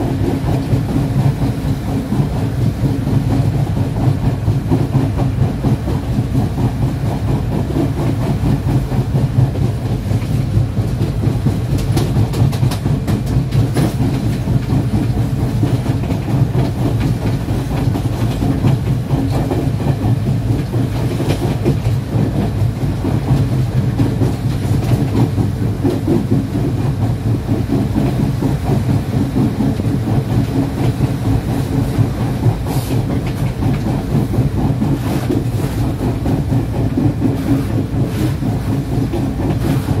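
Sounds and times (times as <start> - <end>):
train wheels rumbling on track: 0.0 - 40.0
rail-joint clicks: 7.4 - 40.0.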